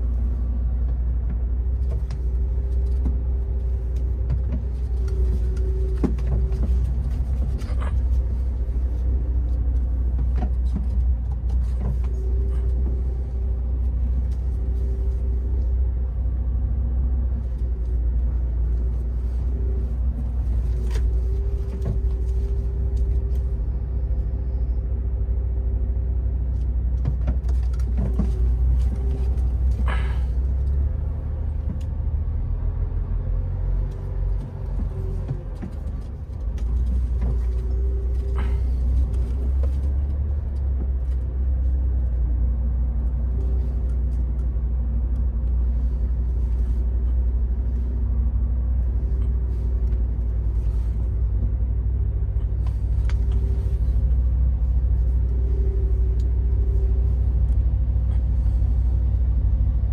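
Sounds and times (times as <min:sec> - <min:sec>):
faint whine: 0:00.0 - 0:59.9
truck engine and road drone: 0:00.0 - 0:59.9.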